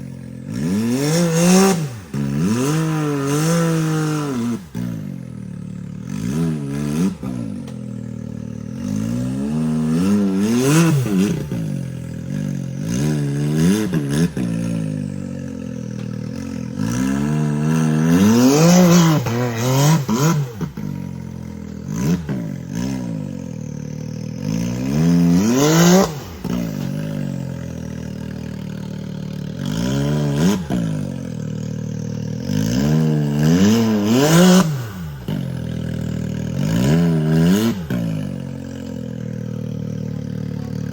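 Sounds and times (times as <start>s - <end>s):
engine revving in bursts: 0.0s - 40.9s.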